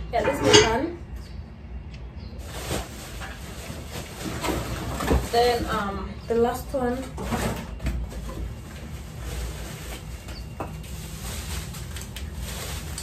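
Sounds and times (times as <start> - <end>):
bubble wrap and cardboard rustling: 2.3 - 13.0.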